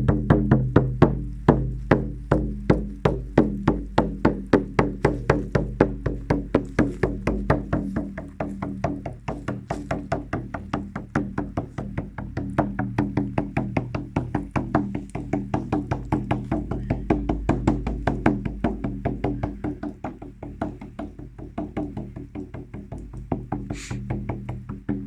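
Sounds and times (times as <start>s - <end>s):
fast steady drumbeat: 0.0s - 25.0s
low droning hum: 0.0s - 25.0s.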